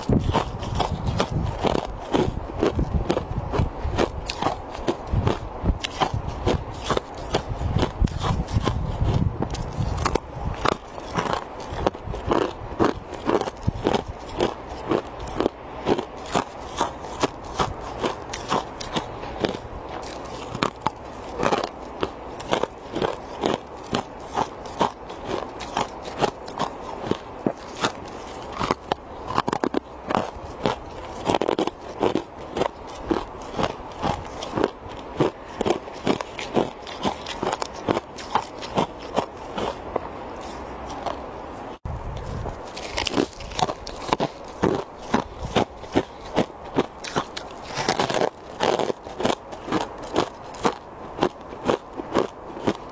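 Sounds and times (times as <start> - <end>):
person chewing ice: 0.0 - 52.9.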